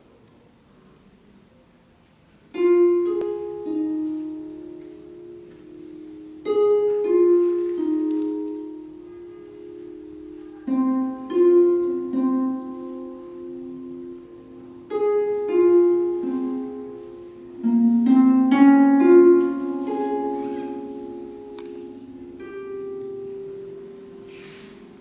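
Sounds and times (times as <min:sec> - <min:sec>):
harp playing: 0:02.5 - 0:25.0.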